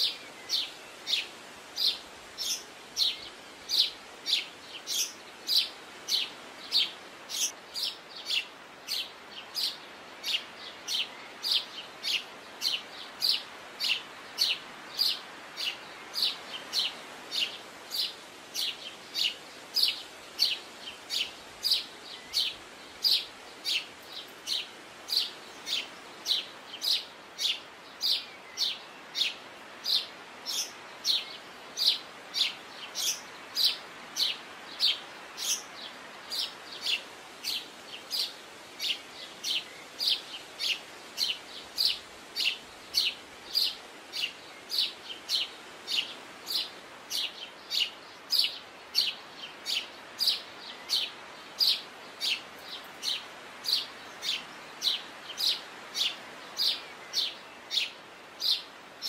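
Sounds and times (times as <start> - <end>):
faint steady background noise: 0.0 - 59.0
songbird chirping: 0.0 - 59.0.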